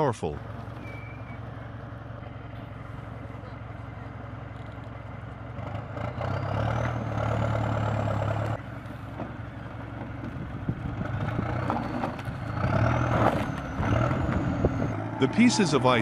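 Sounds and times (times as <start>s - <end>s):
tracked vehicle engine under load: 0.0s - 16.0s.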